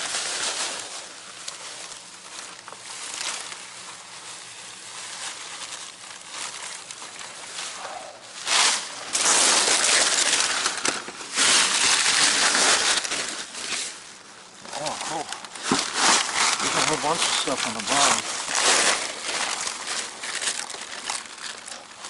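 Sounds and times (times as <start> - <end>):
plastic packaging rustling: 0.0 - 22.0.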